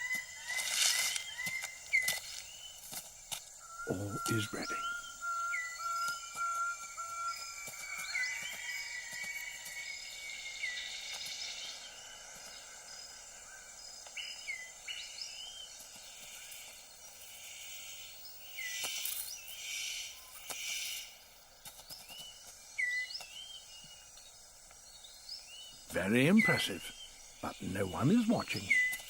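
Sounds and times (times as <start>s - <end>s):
whistled bird calls: 0.0s - 2.8s, 3.6s - 21.2s, 21.8s - 24.3s, 24.9s - 29.0s
high insect hum: 0.0s - 29.0s.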